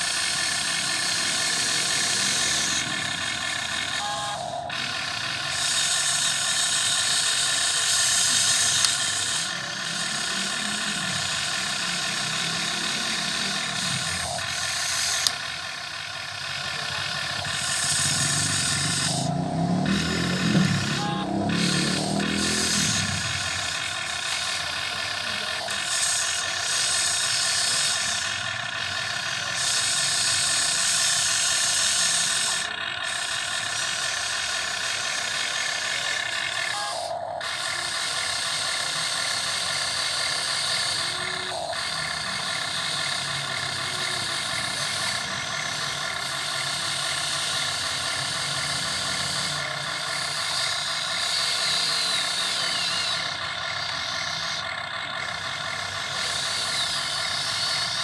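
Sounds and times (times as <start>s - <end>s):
model excavator electric motors whining: 0.0s - 58.0s.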